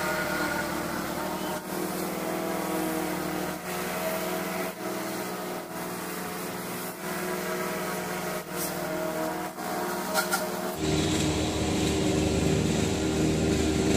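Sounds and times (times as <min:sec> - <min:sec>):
lawn mower engine running: 0:00.0 - 0:13.9.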